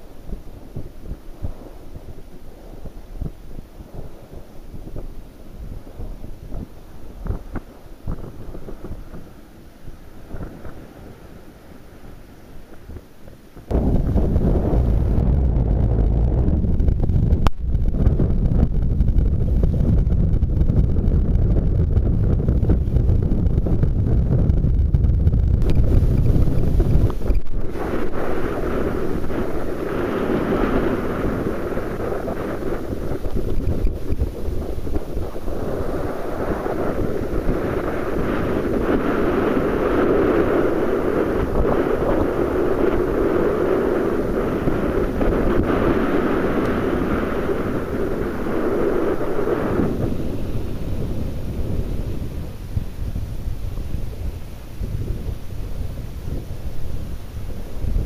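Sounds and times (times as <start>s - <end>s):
sea water rushing along hull: 0.0s - 16.3s, 25.6s - 58.0s
wind rumbling across microphone: 0.0s - 58.0s.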